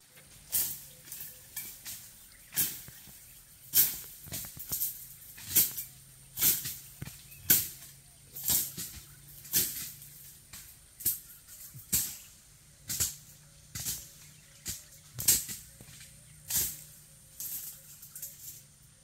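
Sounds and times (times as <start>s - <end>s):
insect rasping calls: 0.2s - 19.0s.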